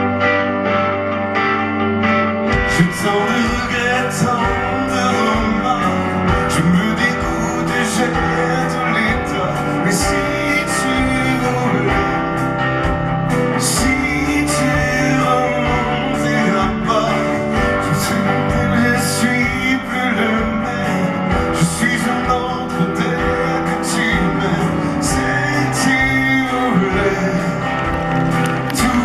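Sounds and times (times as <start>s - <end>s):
drums: 0.0s - 29.0s
guitar: 0.0s - 29.0s
live band music: 0.0s - 29.0s.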